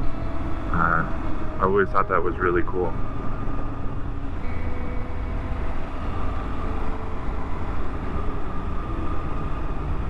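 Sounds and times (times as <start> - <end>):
motorcycle engine drone: 0.0 - 10.0
wind and road noise: 0.0 - 10.0.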